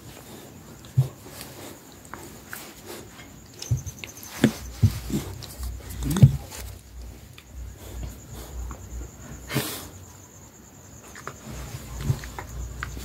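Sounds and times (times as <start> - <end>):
cricket trill: 0.0 - 13.0.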